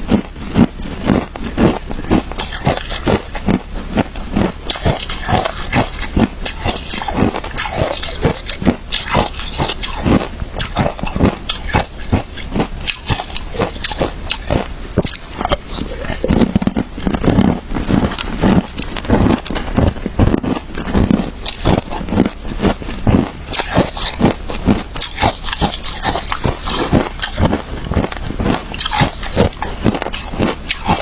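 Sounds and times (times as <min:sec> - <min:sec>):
chewing crunchy ice: 0:00.0 - 0:31.0.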